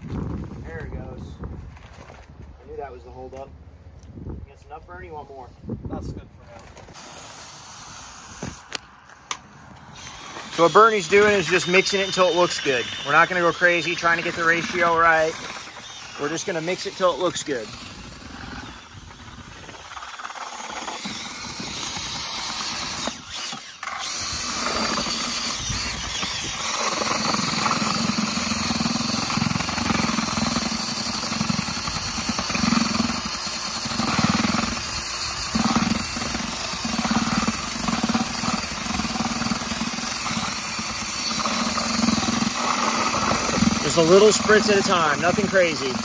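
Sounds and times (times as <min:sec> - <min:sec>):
drill mixer stirring wet concrete: 0:06.6 - 0:08.9, 0:09.8 - 0:46.0.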